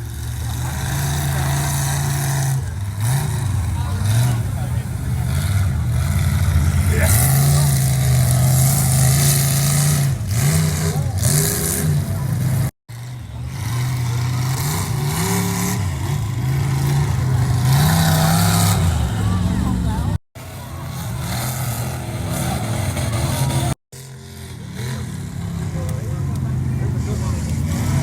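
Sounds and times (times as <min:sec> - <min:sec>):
truck engine revving hard: 0:00.0 - 0:28.0.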